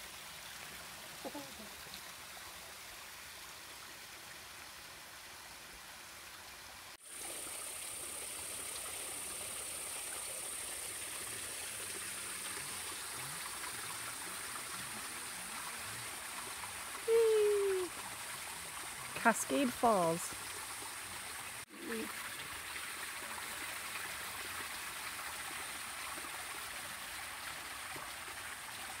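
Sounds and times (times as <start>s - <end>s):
creek and waterfall over rocks: 0.0s - 29.0s.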